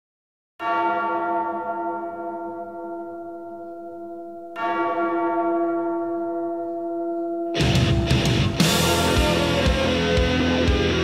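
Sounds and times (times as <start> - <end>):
deep bell ringing: 0.6 - 10.2.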